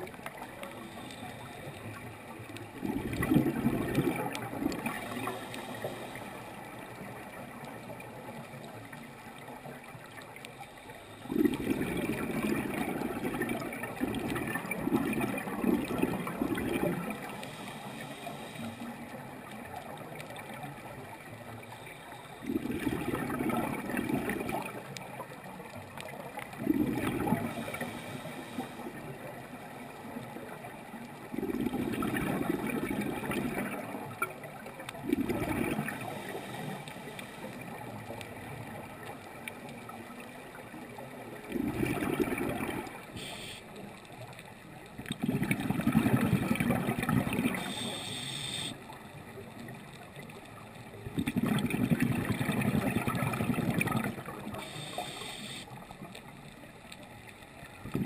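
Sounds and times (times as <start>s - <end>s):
diver's exhaled bubbles underwater: 2.3s - 9.0s, 11.1s - 21.3s, 22.3s - 43.6s, 44.9s - 56.4s, 57.7s - 58.0s.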